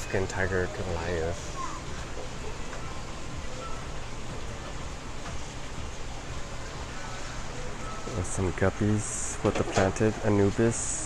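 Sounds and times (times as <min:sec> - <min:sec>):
aquarium water filtration rushing: 0:00.0 - 0:11.0.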